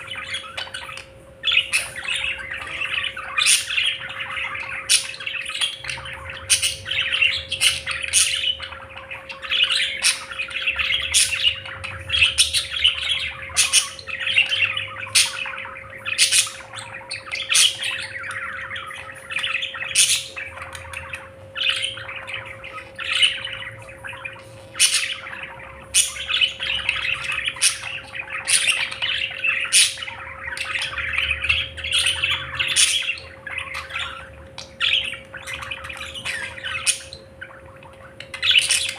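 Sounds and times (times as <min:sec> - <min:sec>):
budgerigars chattering: 0:00.0 - 0:38.9
sharp chirps and squawks: 0:00.0 - 0:38.9.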